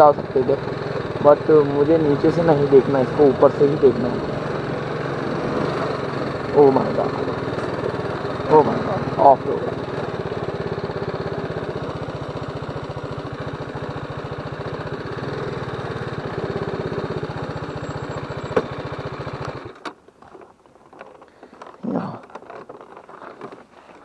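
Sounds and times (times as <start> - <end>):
motorcycle engine running at low revs: 0.0 - 19.8.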